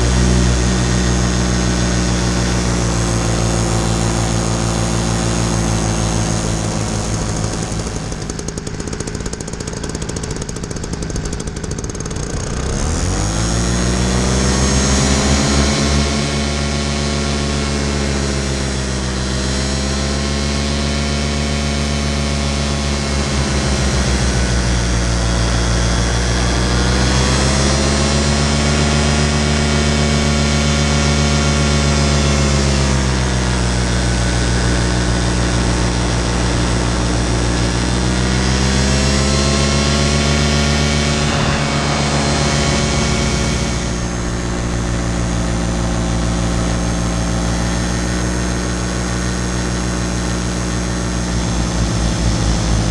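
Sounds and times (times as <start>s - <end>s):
paramotor engine and propeller: 0.0s - 52.9s.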